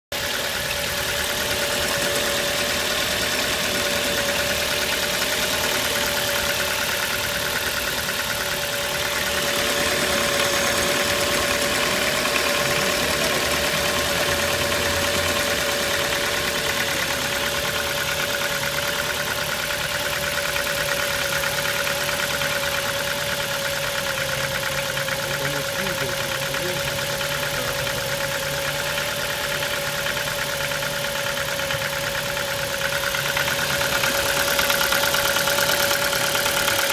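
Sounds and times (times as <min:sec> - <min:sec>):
car engine idling: 0:00.1 - 0:36.9
fast knocking tick: 0:00.2 - 0:36.9.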